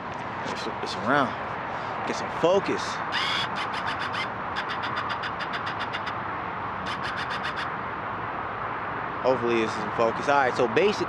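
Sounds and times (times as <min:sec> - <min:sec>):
distant traffic hum: 0:00.0 - 0:11.0.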